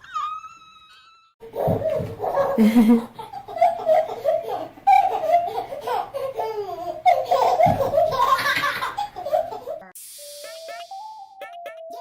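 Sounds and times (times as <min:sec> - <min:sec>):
small child giggling: 0:00.0 - 0:09.9.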